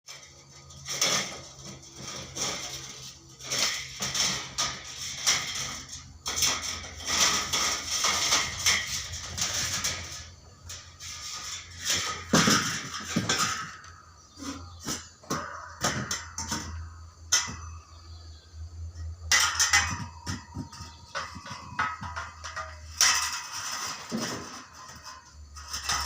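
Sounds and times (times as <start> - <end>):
metallic clattering and scraping: 0.1 - 26.0.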